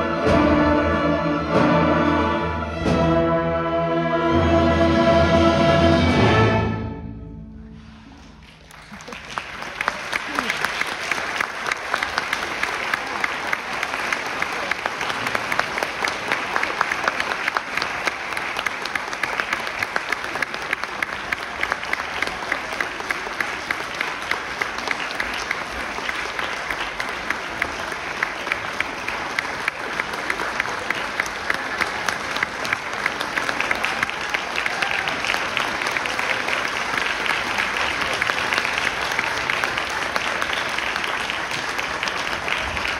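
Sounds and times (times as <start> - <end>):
audience applauding: 8.0 - 42.9.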